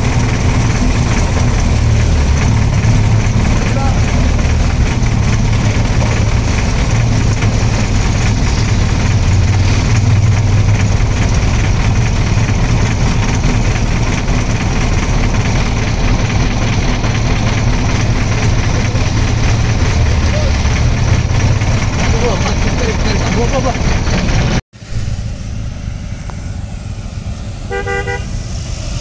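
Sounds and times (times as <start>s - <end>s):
motorcycle engine idling: 0.0s - 28.4s.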